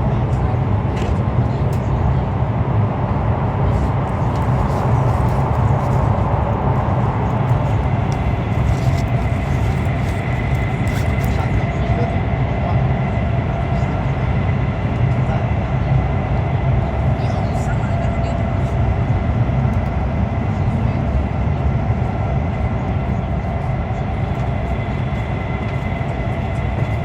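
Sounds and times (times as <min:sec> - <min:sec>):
train running low rumble: 0:00.0 - 0:27.0.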